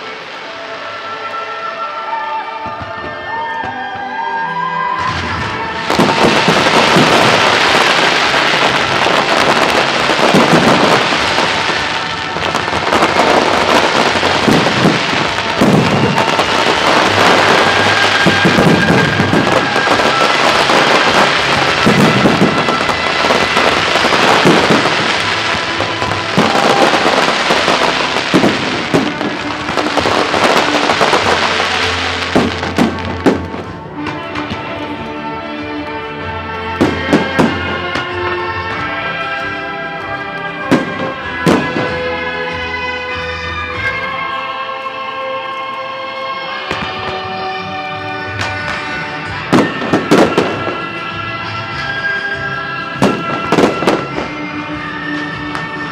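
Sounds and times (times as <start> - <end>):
fireworks bangs and crackling: 0.0 - 55.9
music: 0.0 - 55.9.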